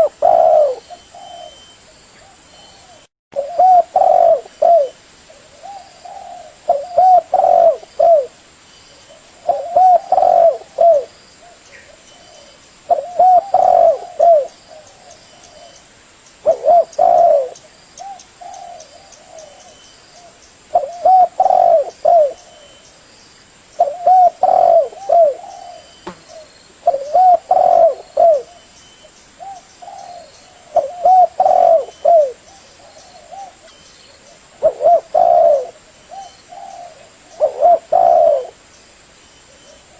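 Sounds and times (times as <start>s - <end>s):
dove cooing: 0.0s - 8.4s, 9.1s - 15.8s, 16.4s - 22.8s, 23.8s - 28.7s, 29.4s - 38.6s.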